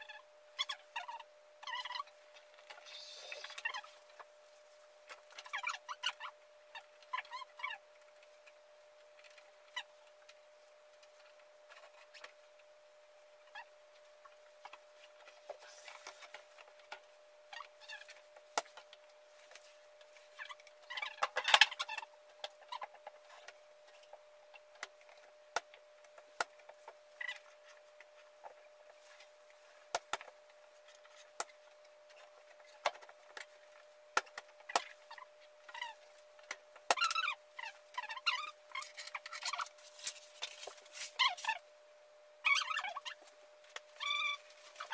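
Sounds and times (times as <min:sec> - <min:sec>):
faint hum: 0:00.0 - 0:44.9.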